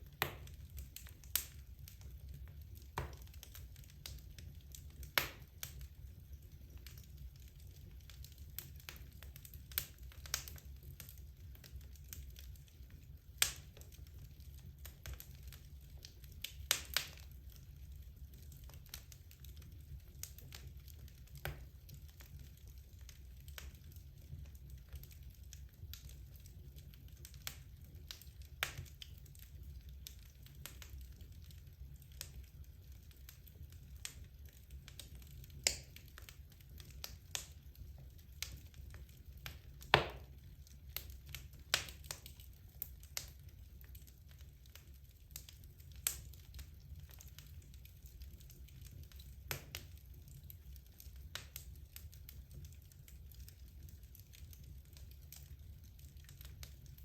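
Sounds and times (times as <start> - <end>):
fire crackling and popping: 0.0 - 57.0
fire low rumble: 0.0 - 57.0.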